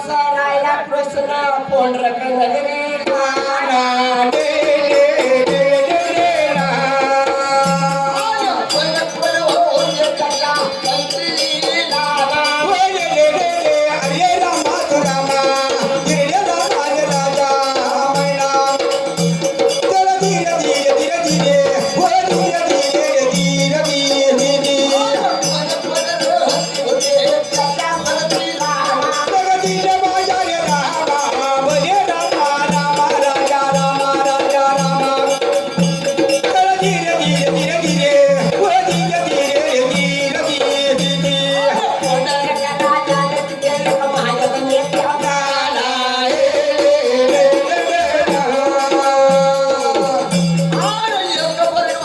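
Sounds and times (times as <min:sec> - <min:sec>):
shaken percussion: 0:03.0 - 0:52.0
regular drum beat: 0:03.1 - 0:52.0.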